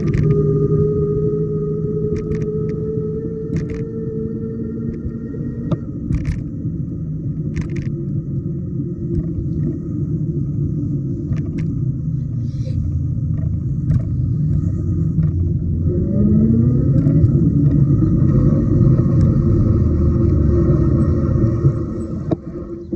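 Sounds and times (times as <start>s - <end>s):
faint steady whine: 0.0s - 22.9s
wind and road noise: 0.0s - 22.9s.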